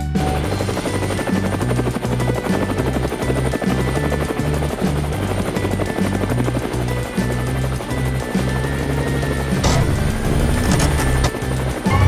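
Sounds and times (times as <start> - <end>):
cartoon helicopter rotor chop: 0.0 - 12.0.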